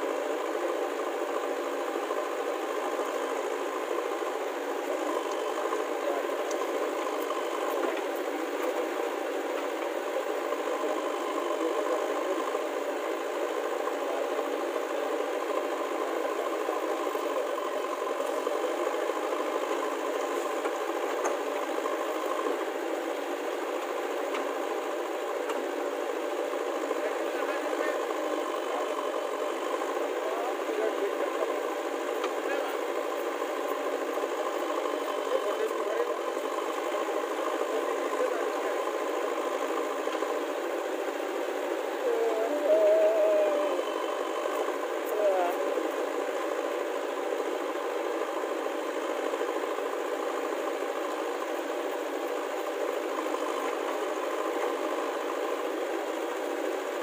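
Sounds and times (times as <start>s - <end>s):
diesel engine clattering under load: 0.0s - 57.0s.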